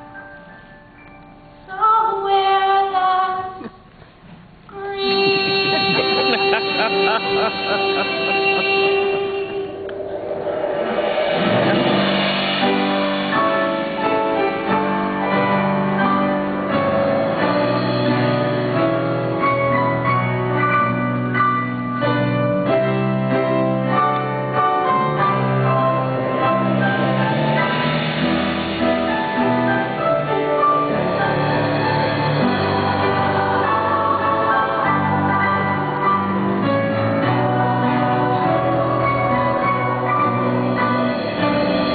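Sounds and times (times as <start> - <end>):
theatre pit music led by piano: 0.0 - 41.9.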